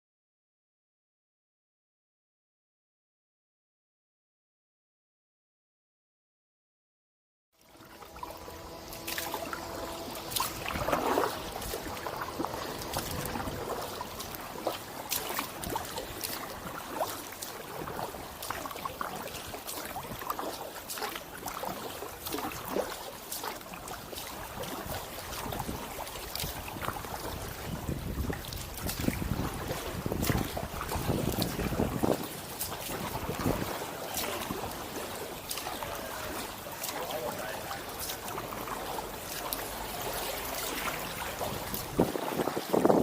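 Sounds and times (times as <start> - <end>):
paddle splashing in water: 7.6 - 43.0
water dripping off paddle: 7.6 - 43.0.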